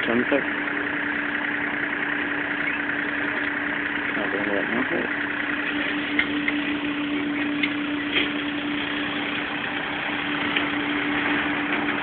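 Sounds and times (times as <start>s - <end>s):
machine humming: 0.3s - 12.0s.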